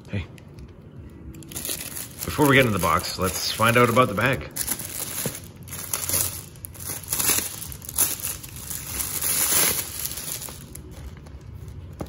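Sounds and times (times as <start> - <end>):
plastic bag crinkling: 1.4 - 11.8.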